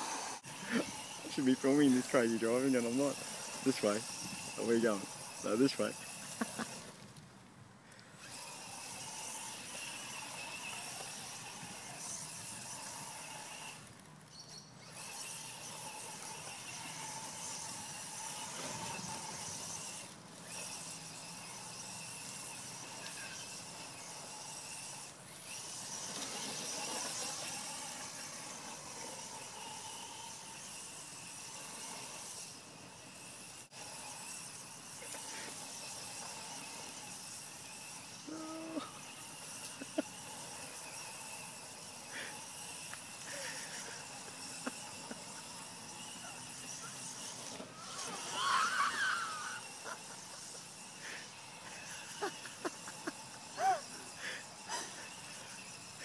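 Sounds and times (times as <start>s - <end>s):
toy truck motor whine: 0.0s - 7.2s, 7.9s - 56.0s.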